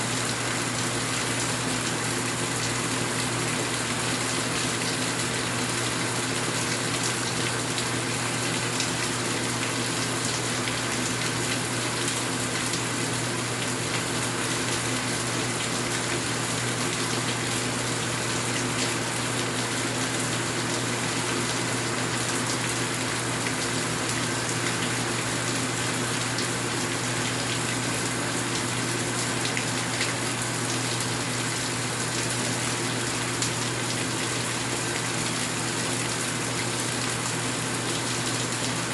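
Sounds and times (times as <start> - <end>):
steady rain falling: 0.1 - 38.9.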